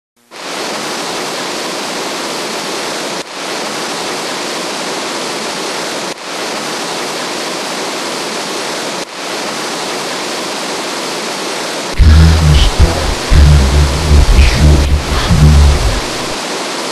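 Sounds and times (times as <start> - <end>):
waterfall rushing: 0.3 - 16.9.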